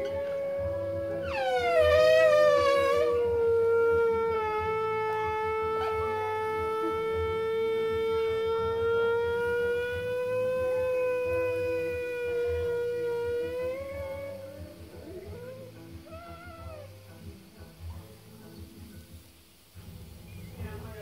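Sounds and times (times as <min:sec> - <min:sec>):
waffle maker steam farting tone: 0:00.0 - 0:18.0.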